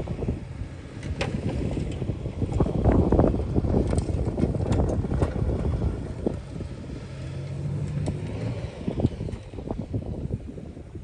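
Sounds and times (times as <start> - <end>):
heavy machinery diesel engine: 0.0 - 11.0.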